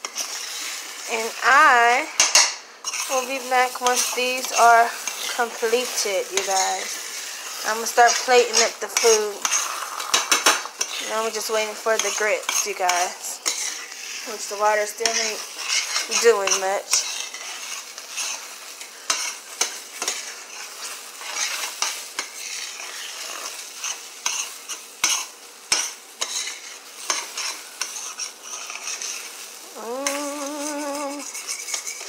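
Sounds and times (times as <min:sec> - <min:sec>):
eggs sizzling in a frying pan: 0:00.0 - 0:32.0
fork scraping a pan: 0:00.0 - 0:32.0.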